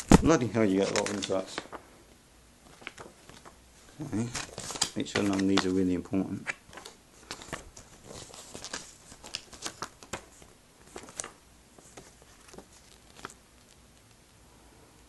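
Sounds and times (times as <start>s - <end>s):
paper inserts rustling and tapping: 0.0s - 1.8s, 2.6s - 3.6s, 4.2s - 13.8s.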